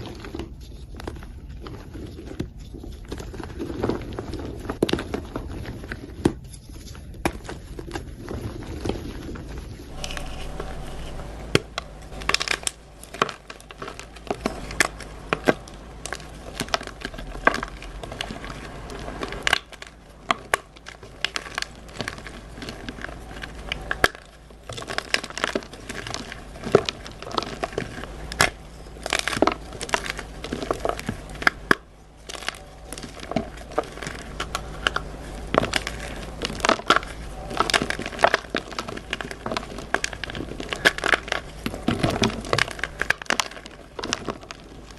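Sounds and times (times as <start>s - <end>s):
chalk blocks being crushed: 0.0s - 44.9s.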